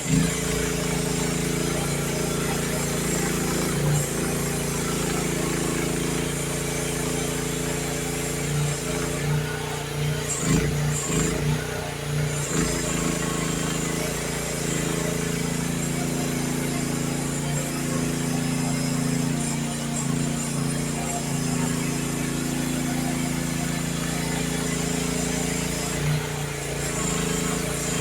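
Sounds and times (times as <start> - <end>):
excavator engine running: 0.0 - 28.0.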